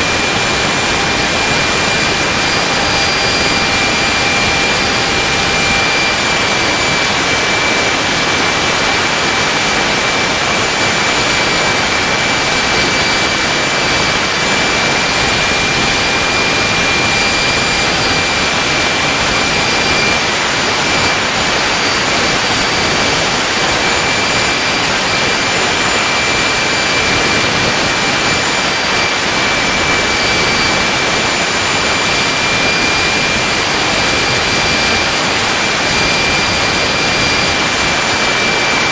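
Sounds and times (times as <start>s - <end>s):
high engine whine: 0.0s - 38.9s
jet engine exhaust rush: 0.0s - 38.9s.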